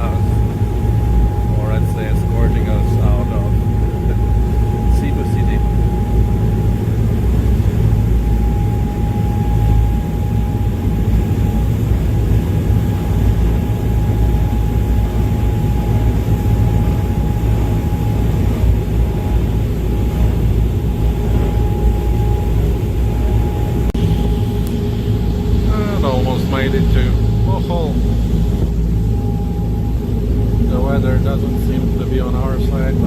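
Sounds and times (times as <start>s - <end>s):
ferry engines rumbling: 0.0s - 33.0s
thin constant whine: 0.0s - 33.0s.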